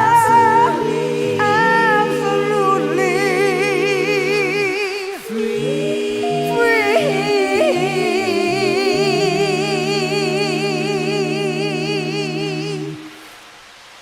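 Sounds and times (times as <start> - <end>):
voices humming a chord: 0.0 - 13.3
faint hiss: 0.0 - 14.0.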